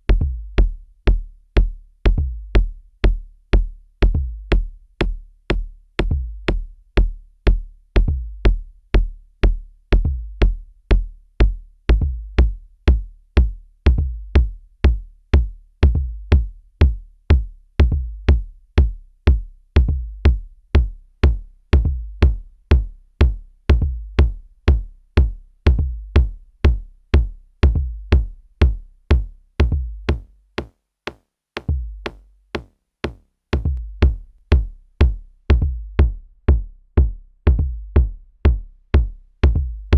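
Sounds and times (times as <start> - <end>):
drum machine kick drum pattern: 0.0 - 39.9.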